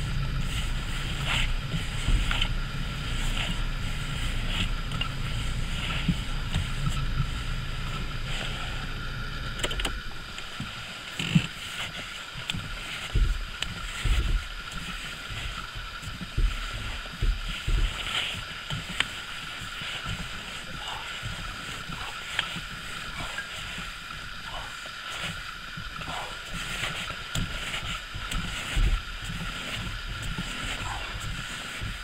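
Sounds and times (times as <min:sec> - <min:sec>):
steering wheel rustling and rubbing: 0:00.0 - 0:32.0.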